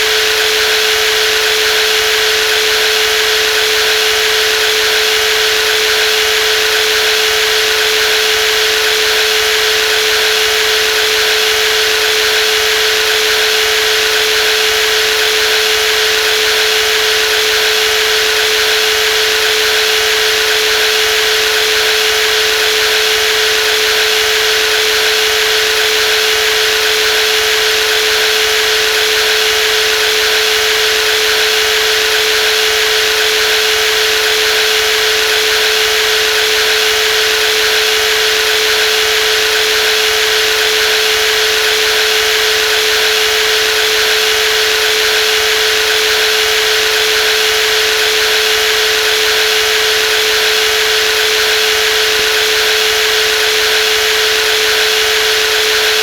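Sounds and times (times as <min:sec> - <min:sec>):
jigsaw motor whine: 0:00.0 - 0:56.0.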